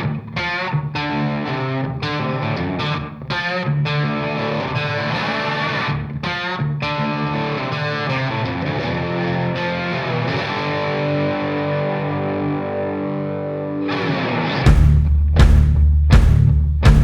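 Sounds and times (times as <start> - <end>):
distorted guitar music: 0.0 - 17.0.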